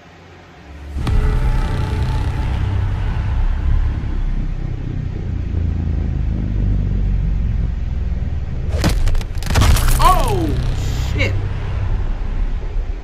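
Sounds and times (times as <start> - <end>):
deep rumbling drone: 0.0 - 13.0.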